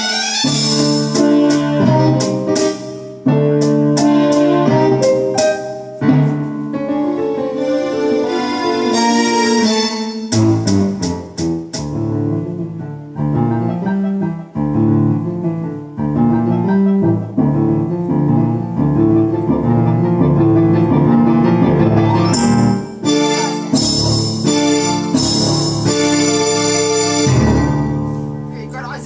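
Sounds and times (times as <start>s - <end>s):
backing accompaniment: 0.0s - 29.0s
keyboard piano blues chords: 0.0s - 29.0s.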